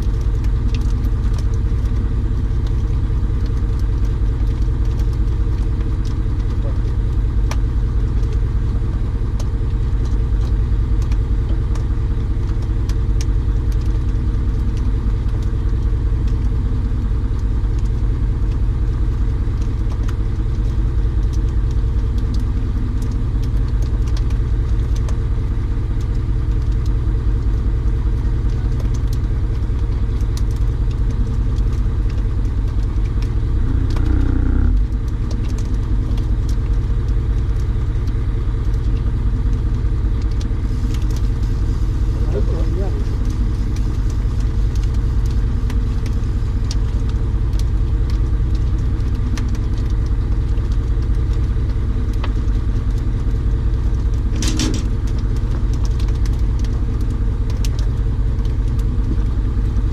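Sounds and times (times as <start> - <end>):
low engine rumble: 0.0 - 59.9.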